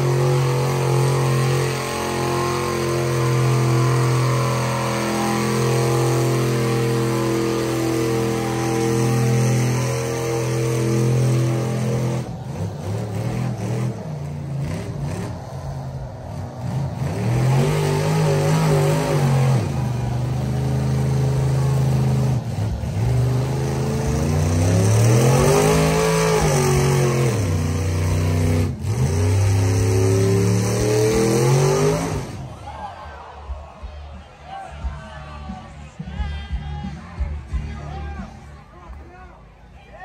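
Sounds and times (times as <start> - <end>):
truck engine revving: 0.0 - 33.5.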